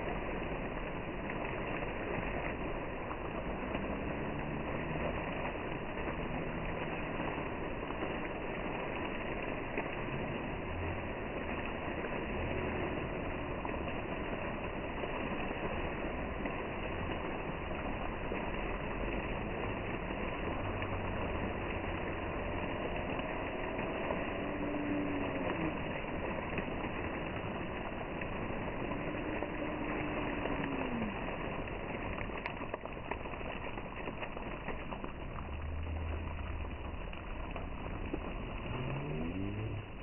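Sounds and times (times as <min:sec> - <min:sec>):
fountain jets splashing: 0:00.0 - 0:40.0.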